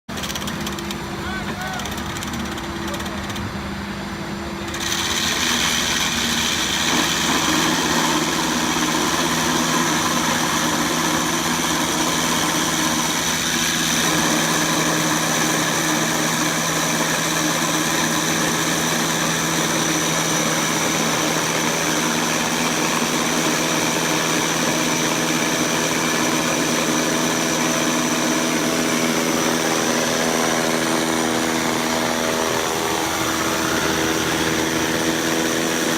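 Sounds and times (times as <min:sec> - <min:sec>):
concrete scarifier humming: 0:00.1 - 0:35.9.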